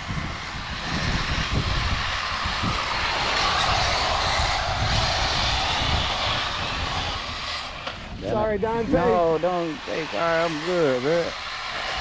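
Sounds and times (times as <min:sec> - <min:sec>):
electric rc car motors whining: 0:00.0 - 0:12.0.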